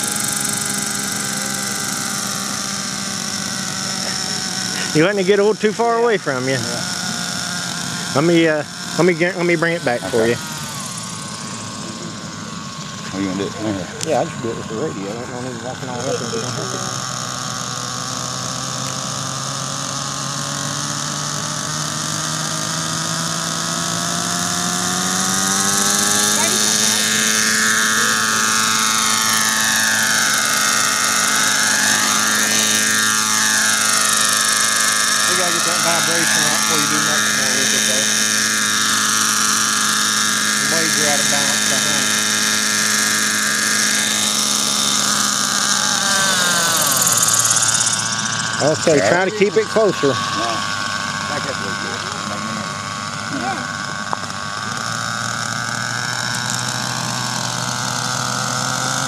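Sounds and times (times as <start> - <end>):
fast pulsing: 0.0 - 59.0
model helicopter engine and rotor: 0.0 - 59.0.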